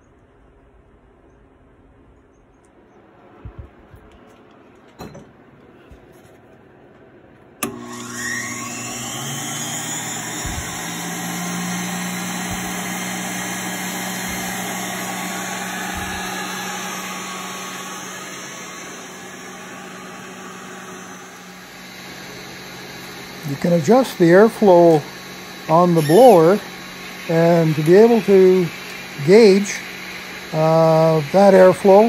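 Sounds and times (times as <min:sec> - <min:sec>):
respirator blower motor whine: 0:03.0 - 0:04.4, 0:07.6 - 0:32.0.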